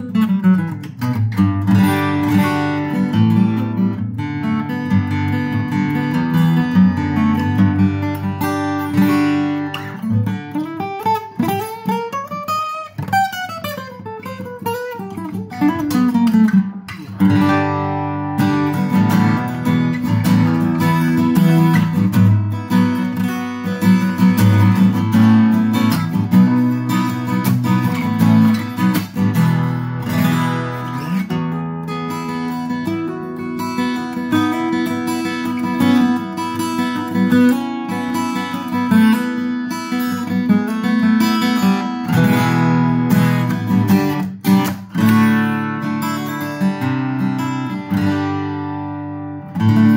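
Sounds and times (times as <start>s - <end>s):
acoustic guitar fingerpicked: 0.0s - 49.9s.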